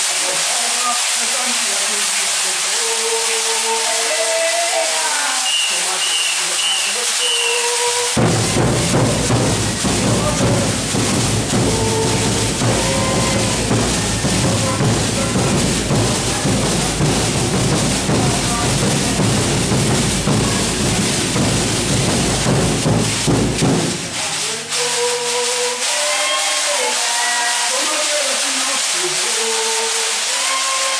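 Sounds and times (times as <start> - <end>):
group of voices singing: 0.0 - 21.4, 23.8 - 30.9
drums: 3.2 - 30.9.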